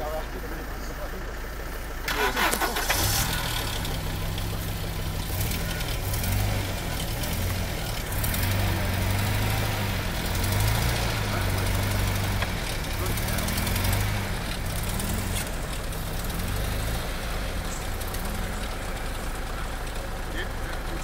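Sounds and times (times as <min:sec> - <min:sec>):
diesel engine revving under load: 0:00.0 - 0:21.0.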